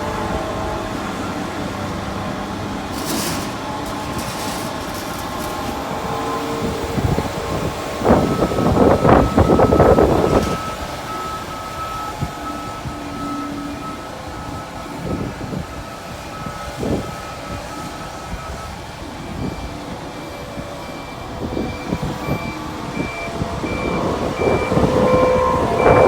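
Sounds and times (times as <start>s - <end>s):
diesel engine running: 0.0s - 26.0s
reversing alarm beeping: 0.0s - 26.0s.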